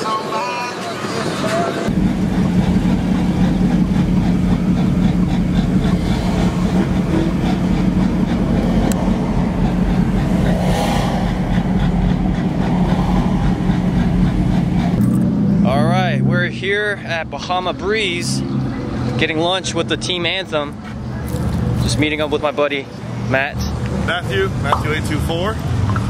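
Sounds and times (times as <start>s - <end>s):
diesel engine rumbling from cab: 1.8s - 26.0s.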